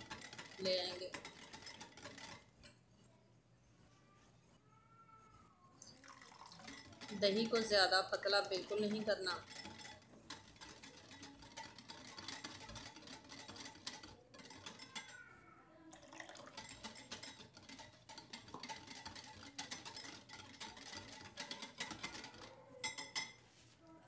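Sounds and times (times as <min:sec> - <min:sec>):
whisk clicking against glass bowl: 0:00.0 - 0:02.8, 0:05.9 - 0:23.4.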